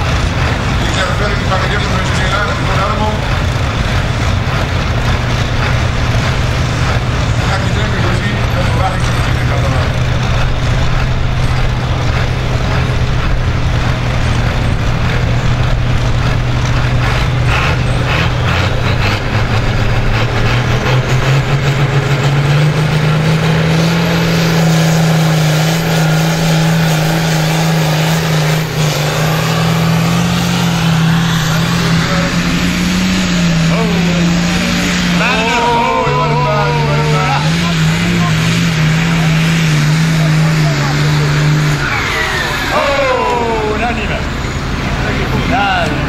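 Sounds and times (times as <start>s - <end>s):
diesel tractor engine revving: 0.0s - 46.0s.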